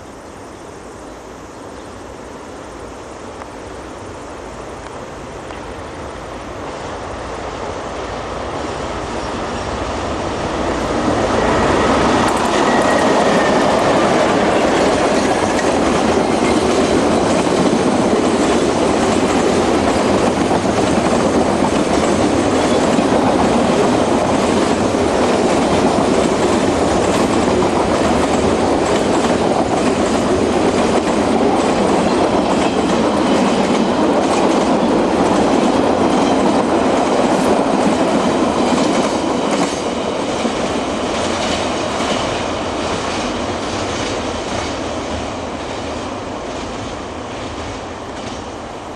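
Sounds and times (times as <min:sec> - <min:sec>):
freight train passing: 0:00.0 - 0:48.9.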